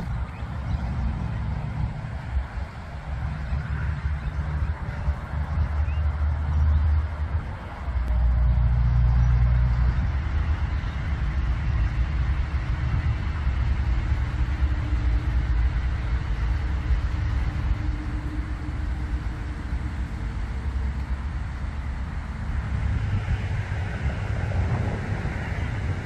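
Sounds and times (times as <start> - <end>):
distant road traffic: 0.0 - 26.0
faint engine hum: 0.0 - 26.0
wind buffeting microphone: 0.0 - 26.0.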